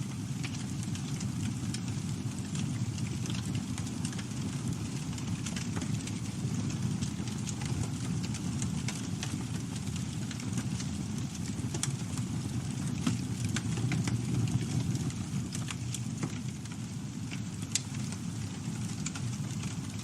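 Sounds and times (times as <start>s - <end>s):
low roar of flames: 0.0s - 20.0s
wood crackling and popping: 0.0s - 20.0s.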